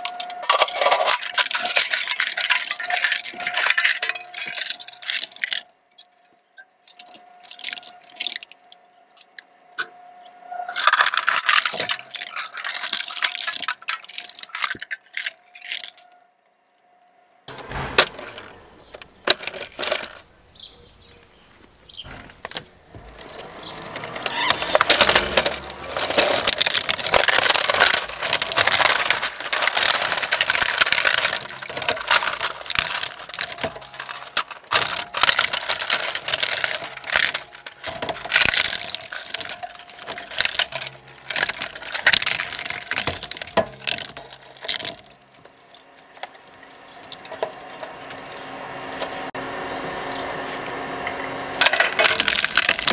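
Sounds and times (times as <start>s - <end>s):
shredder crunching plastic: 0.0s - 9.4s, 10.7s - 16.0s, 17.5s - 20.3s, 22.0s - 52.9s.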